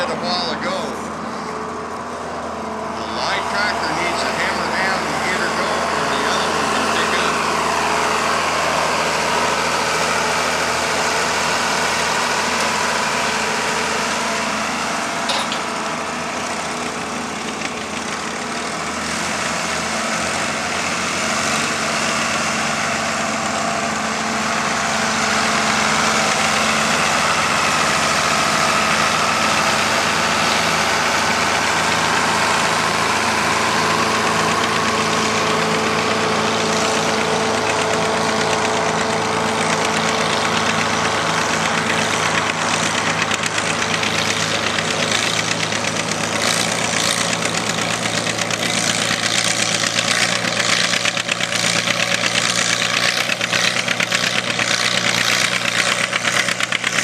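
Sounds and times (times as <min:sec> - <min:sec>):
tractor engines idling: 0:00.0 - 0:57.0.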